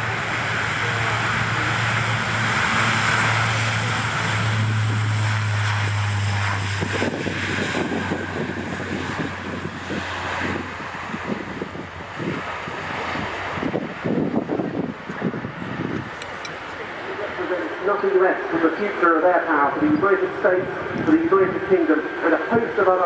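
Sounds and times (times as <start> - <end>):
aircraft engines droning: 0.0 - 23.0
wind gusting on microphone: 0.0 - 23.0.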